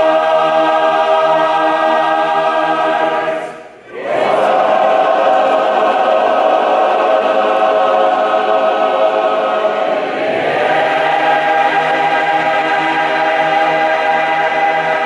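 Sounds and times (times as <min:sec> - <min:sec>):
large group singing: 0:00.0 - 0:15.0.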